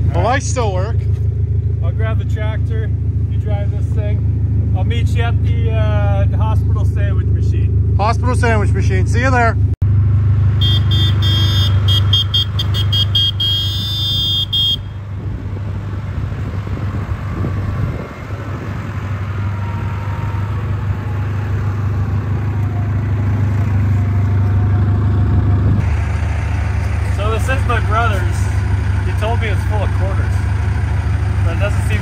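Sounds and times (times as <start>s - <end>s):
tractor diesel engine droning: 0.0s - 32.0s.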